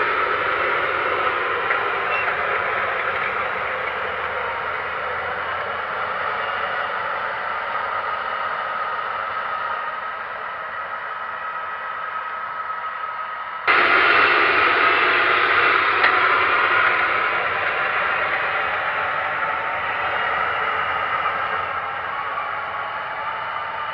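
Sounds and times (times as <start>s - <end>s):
tractor engine under load: 0.0s - 23.9s.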